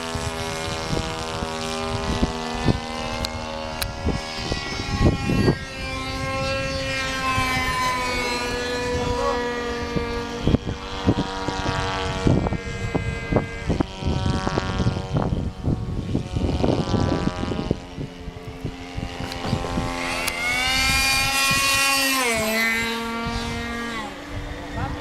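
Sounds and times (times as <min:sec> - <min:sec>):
model plane engine in flight: 0:00.0 - 0:25.0
wind buffeting microphone: 0:00.0 - 0:25.0.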